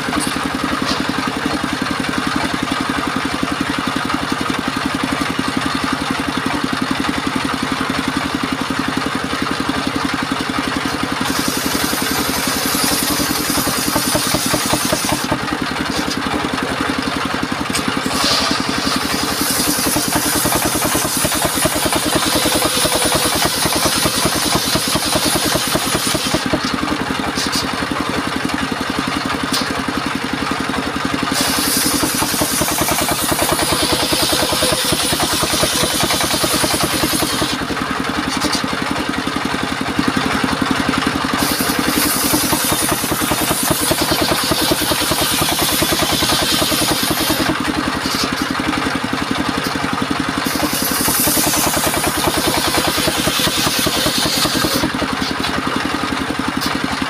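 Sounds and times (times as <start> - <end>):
circular saw blade cutting timber: 0.0 - 57.0
sawmill engine running: 0.0 - 57.0.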